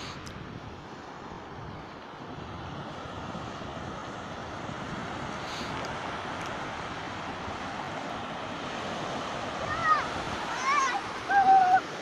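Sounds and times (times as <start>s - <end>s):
wind buffeting microphone: 0.0s - 12.0s
breaking surf: 2.3s - 12.0s.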